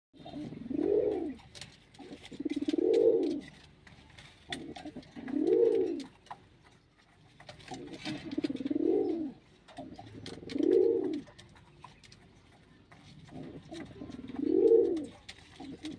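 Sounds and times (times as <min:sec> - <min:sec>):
pigeon cooing: 0:00.2 - 0:03.6, 0:04.5 - 0:06.4, 0:07.4 - 0:15.9.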